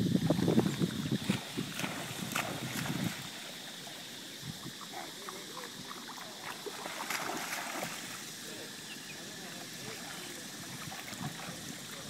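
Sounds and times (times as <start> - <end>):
dogs splashing through water: 0.6 - 4.1, 4.7 - 8.4, 9.2 - 12.0.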